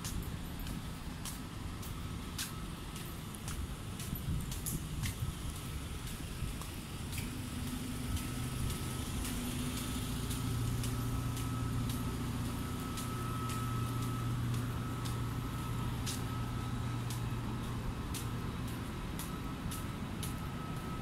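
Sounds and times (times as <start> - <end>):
faint high whine: 0.0 - 21.0
footsteps: 0.0 - 21.0
low mechanical hum: 0.0 - 21.0.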